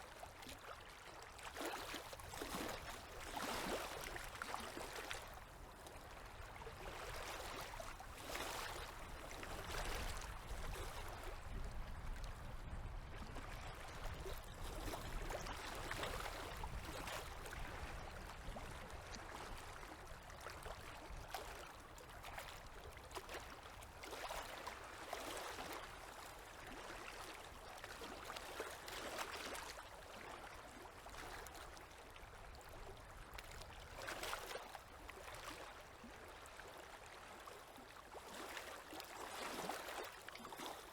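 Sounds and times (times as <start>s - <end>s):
river waves lapping and splashing: 0.0s - 40.9s.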